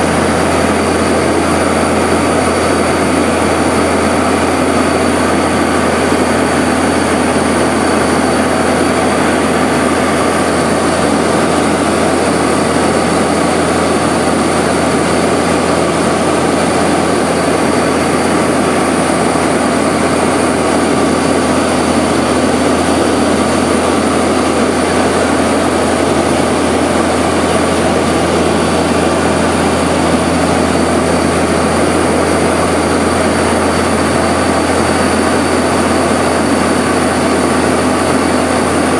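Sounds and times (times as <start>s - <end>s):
propeller engines droning: 0.0s - 38.9s.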